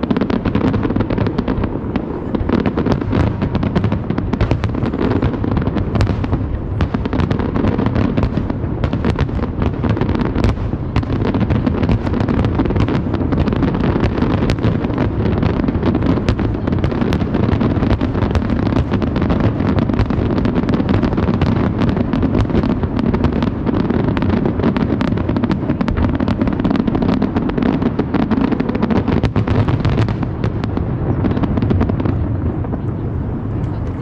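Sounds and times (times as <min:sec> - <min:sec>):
fireworks crackling and banging: 0:00.0 - 0:34.0.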